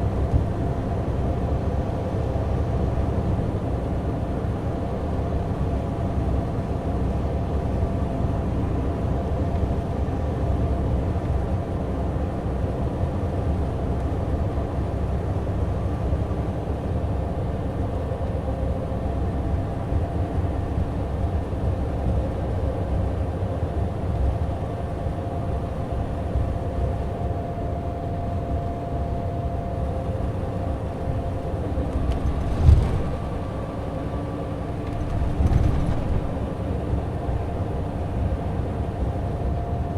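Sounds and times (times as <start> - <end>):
diesel coach engine running: 0.0 - 39.9
road and tyre noise: 0.0 - 39.9.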